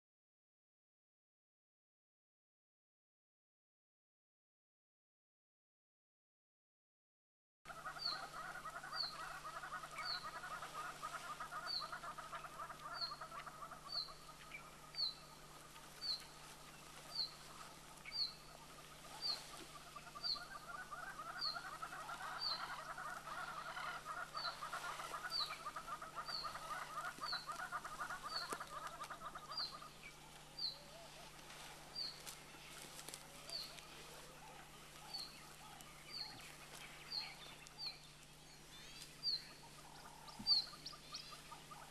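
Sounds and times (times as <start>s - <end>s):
birds chattering chorus: 7.7s - 41.9s.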